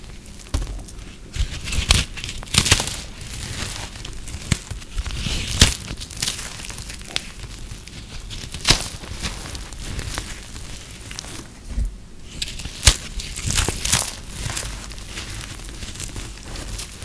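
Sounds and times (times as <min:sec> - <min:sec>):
brittle soap crunching and crackling: 0:00.0 - 0:17.0.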